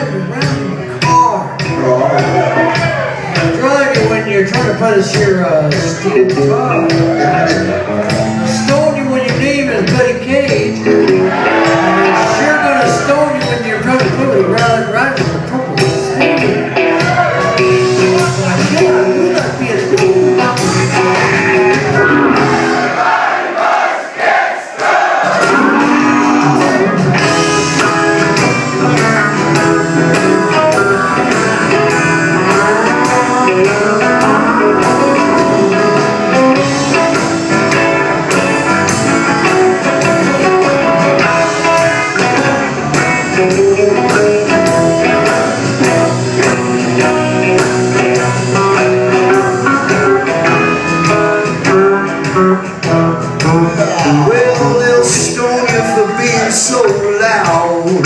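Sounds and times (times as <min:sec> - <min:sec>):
lead guitar: 0:00.0 - 0:23.0, 0:25.2 - 0:58.0
country-rock band playing: 0:00.0 - 0:58.0.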